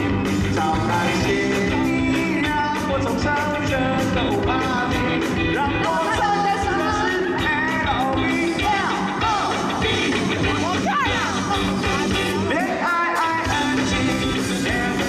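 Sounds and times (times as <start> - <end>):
drums steady beat: 0.0 - 15.0
person singing: 0.0 - 15.0
sustained bass notes: 0.0 - 15.0.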